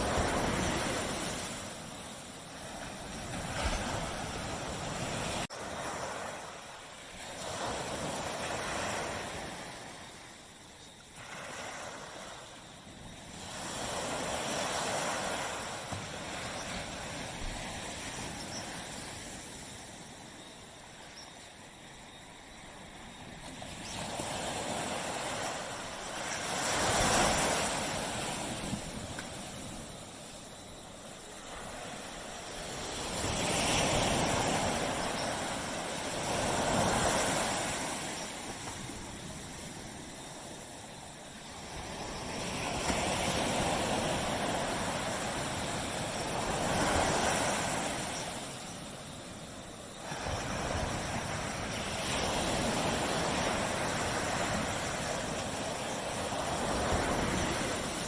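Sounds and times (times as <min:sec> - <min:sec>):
waves breaking on a beach: 0:00.0 - 0:58.0.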